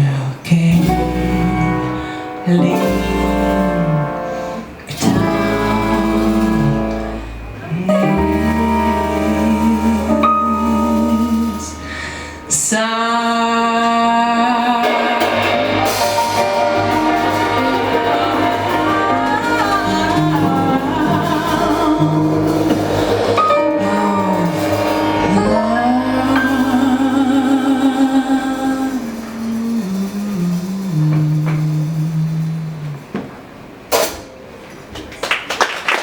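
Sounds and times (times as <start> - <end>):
voice singing held notes: 0.0 - 33.1
double bass: 0.0 - 33.9
drums: 0.0 - 36.0
keyboard: 0.7 - 30.3.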